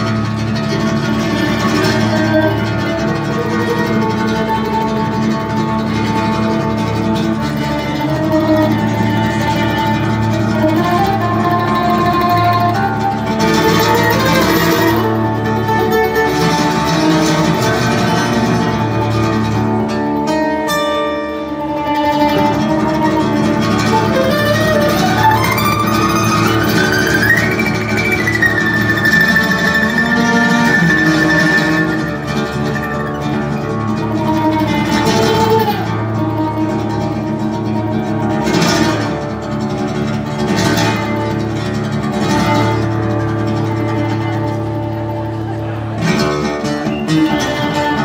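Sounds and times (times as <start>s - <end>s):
acoustic guitar: 0.0s - 48.0s
mandolin: 0.0s - 48.0s.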